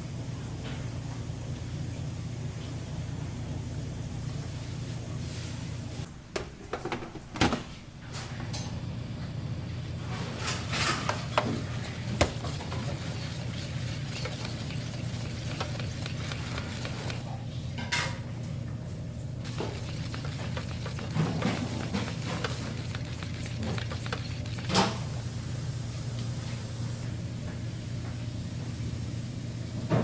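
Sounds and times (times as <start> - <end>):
low restaurant hum: 0.0 - 30.0.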